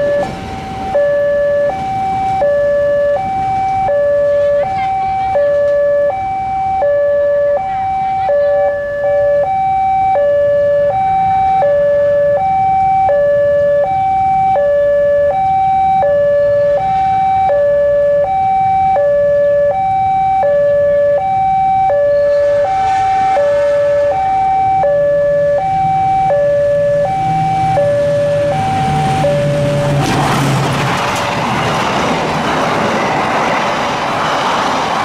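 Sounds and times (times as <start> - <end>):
diesel locomotive rumble: 0.0 - 35.0
two-tone crossing warning alarm: 0.0 - 35.0.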